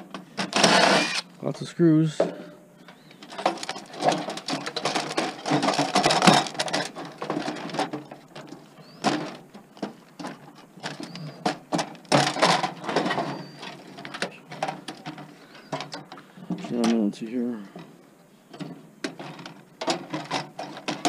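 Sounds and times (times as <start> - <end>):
screws and metal parts clattering: 0.4 - 1.2, 3.2 - 17.0, 18.6 - 21.0.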